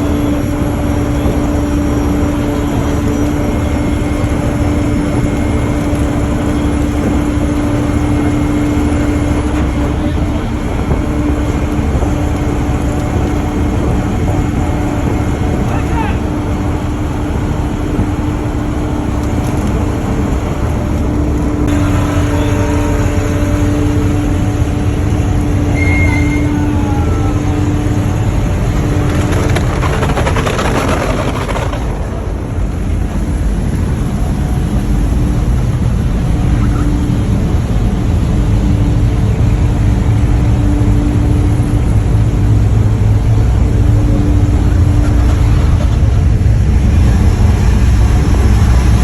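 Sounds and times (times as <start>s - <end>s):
boat engine rumbling: 0.0s - 49.0s.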